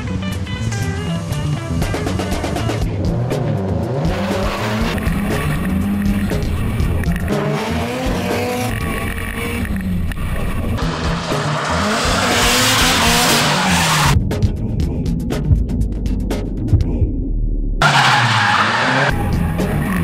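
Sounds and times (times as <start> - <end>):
car engine revving: 0.0 - 14.2, 17.8 - 20.0.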